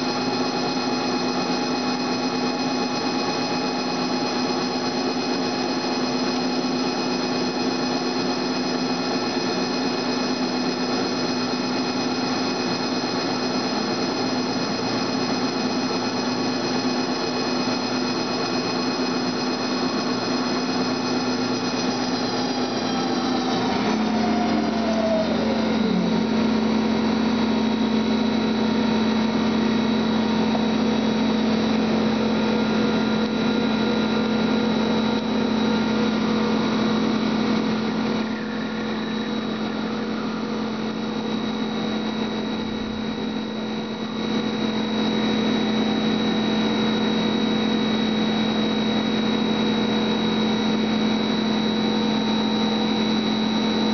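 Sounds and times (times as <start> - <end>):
welding machine spindle whine: 0.0 - 53.9.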